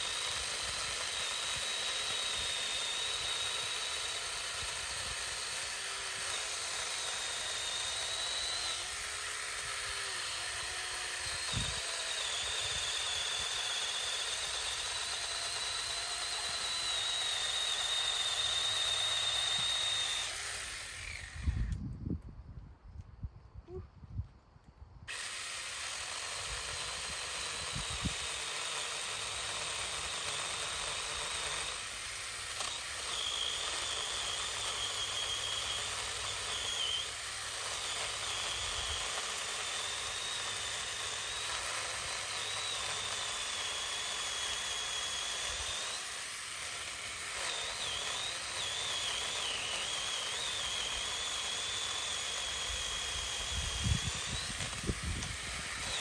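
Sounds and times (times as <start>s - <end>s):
electric chainsaw cutting wood: 0.0s - 21.8s, 25.1s - 56.0s.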